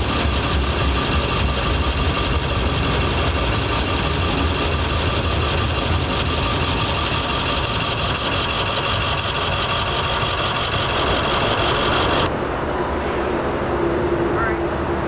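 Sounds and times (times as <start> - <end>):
freight cars rolling on track: 0.0 - 14.2
steady high-pitched hum: 0.0 - 15.0.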